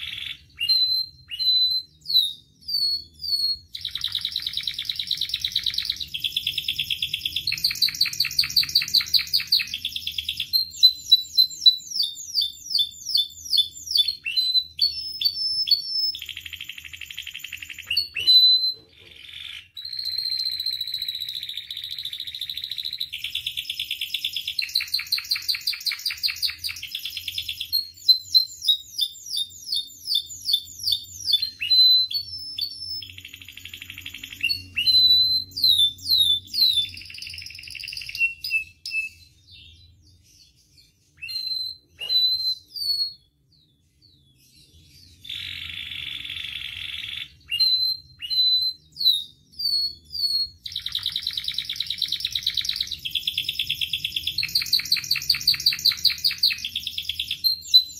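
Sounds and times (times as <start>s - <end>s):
canary singing: 0.0s - 57.9s.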